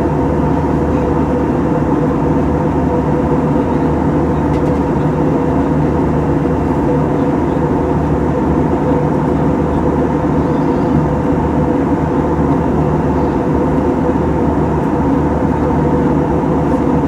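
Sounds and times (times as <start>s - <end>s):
jet engine drone in flight: 0.0s - 17.0s.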